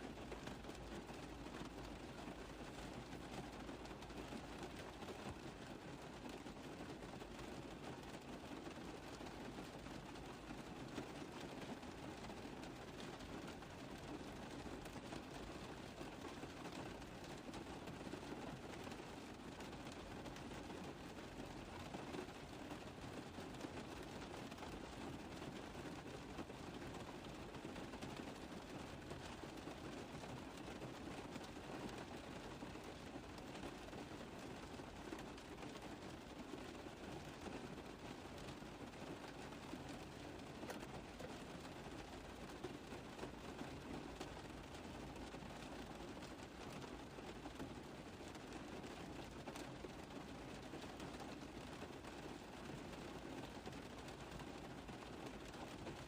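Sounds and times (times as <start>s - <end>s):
rain on a car roof: 0.0s - 56.0s.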